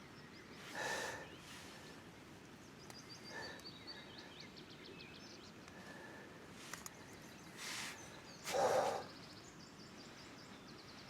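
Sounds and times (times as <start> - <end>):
small bird singing: 0.0 - 1.7, 2.4 - 6.0, 6.8 - 11.0.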